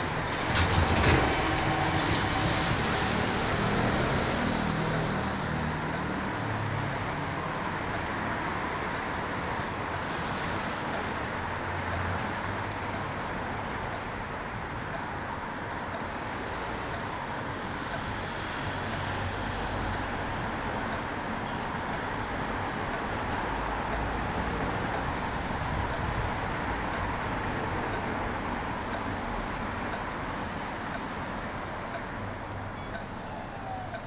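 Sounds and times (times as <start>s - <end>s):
city road traffic: 0.0s - 34.0s.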